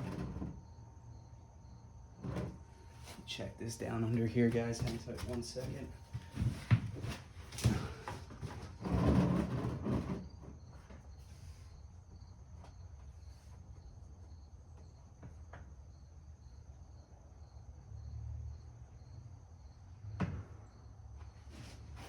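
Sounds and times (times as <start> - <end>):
insects chirping in a pulsing trill: 0.0 - 22.0.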